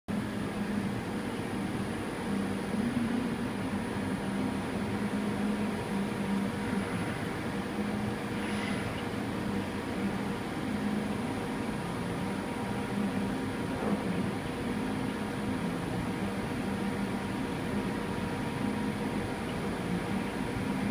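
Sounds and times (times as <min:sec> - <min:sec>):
faint high whine: 0:00.1 - 0:20.9
machining centre humming: 0:00.1 - 0:20.9.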